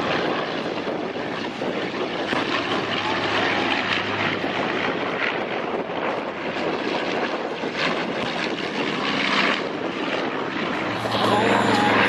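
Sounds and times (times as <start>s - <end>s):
propeller airplane engine: 0.0s - 12.0s.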